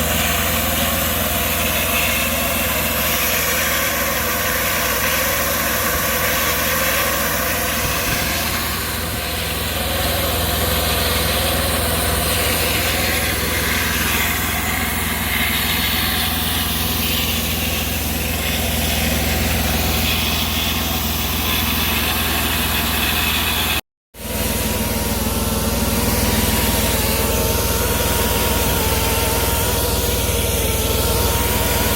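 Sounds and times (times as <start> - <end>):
cable blowing machine humming: 0.0 - 31.9.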